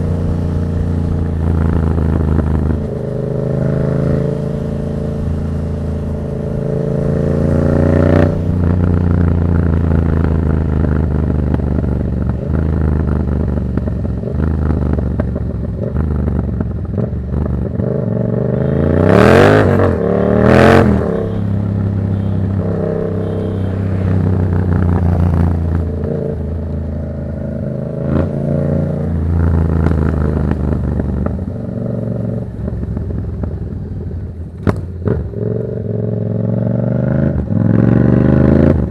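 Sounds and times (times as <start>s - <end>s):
motorcycle engine revs: 0.0s - 33.2s, 34.6s - 38.9s
motorcycle engine running: 0.0s - 38.9s.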